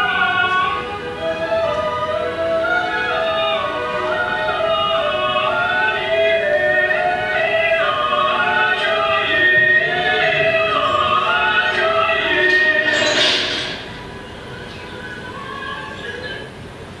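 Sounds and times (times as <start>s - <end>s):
operatic singing voices: 0.0s - 16.6s.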